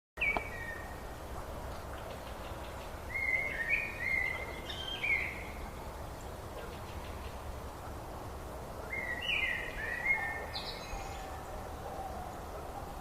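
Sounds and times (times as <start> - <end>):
low background noise: 0.2 - 13.0.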